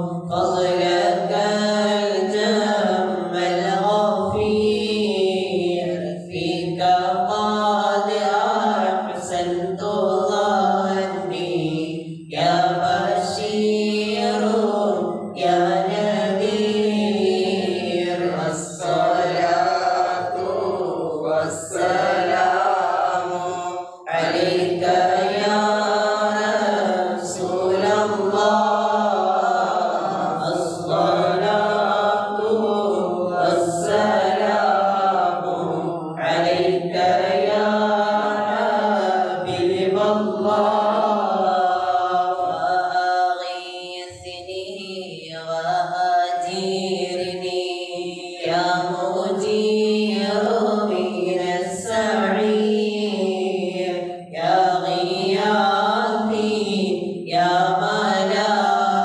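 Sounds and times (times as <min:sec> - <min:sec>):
men chanting into microphone: 0:00.0 - 0:59.0.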